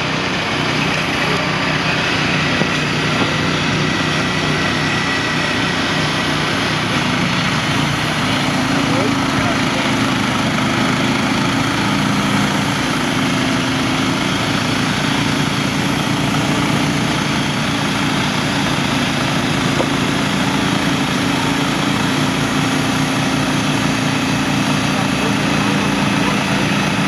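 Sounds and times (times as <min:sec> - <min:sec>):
small gasoline engine running: 0:00.0 - 0:27.0
band saw blade cutting wood: 0:00.5 - 0:27.0.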